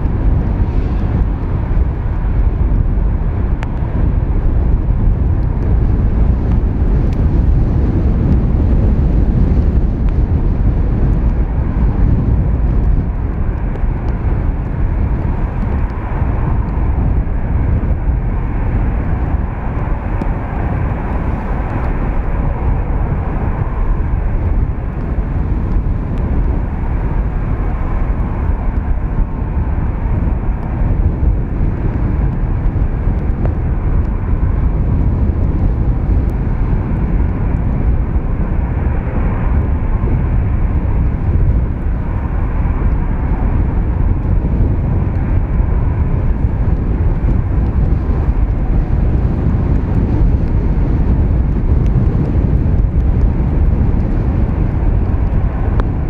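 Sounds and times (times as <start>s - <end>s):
jet engines roaring: 0.0s - 56.0s
wind buffeting microphone: 0.0s - 56.0s.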